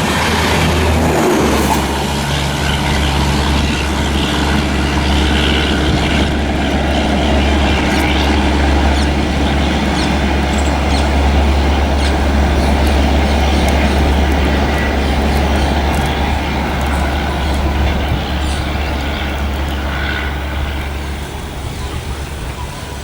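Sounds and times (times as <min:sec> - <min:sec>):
train rumbling past: 0:00.0 - 0:23.0
wheels clicking and squeaking on rails: 0:00.0 - 0:23.0.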